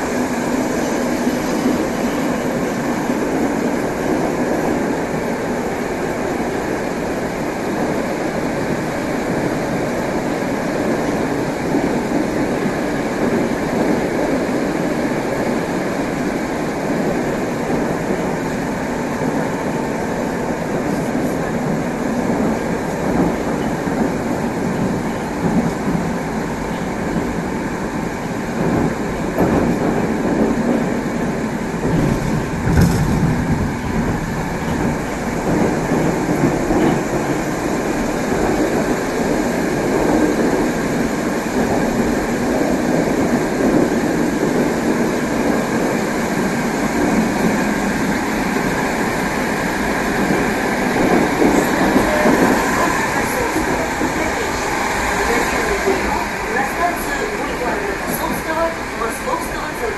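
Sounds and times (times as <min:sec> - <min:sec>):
train wheels running on rail: 0:00.0 - 0:59.9.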